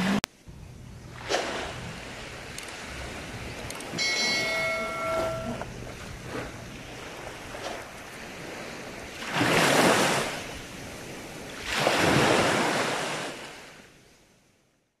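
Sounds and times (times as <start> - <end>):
steady wash of sea: 0.0 - 15.0
small waves breaking on beach: 1.0 - 14.6.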